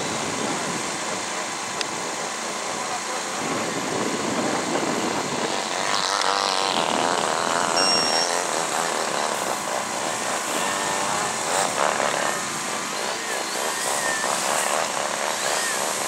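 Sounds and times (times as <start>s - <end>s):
model plane engine in flight: 0.0s - 16.0s.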